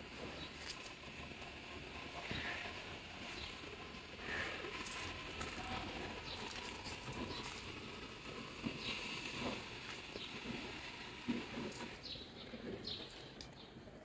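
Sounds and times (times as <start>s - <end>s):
leaves rustling: 0.0s - 13.4s.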